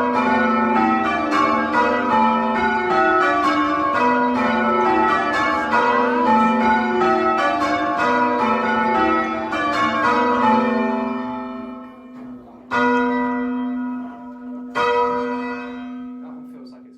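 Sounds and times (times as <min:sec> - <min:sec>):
church bells change ringing: 0:00.0 - 0:16.9.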